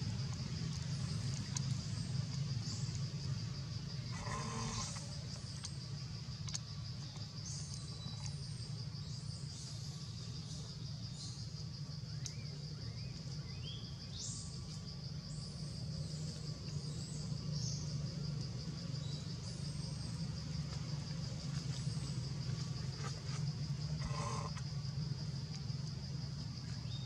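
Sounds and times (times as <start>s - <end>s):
low steady rumble: 0.0s - 27.0s
pulsing insect drone: 0.0s - 27.0s.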